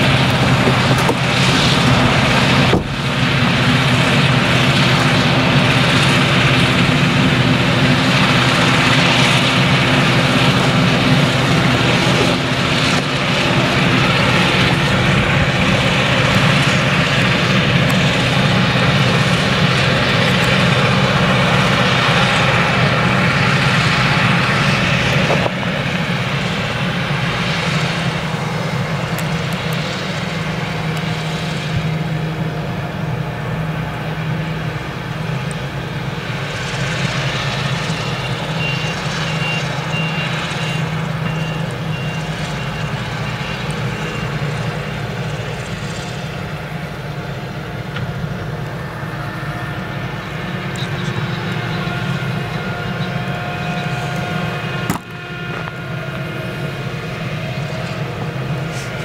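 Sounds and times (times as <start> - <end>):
chopper and blower rushing: 0.0 - 59.0
harvester engine droning: 0.0 - 59.0.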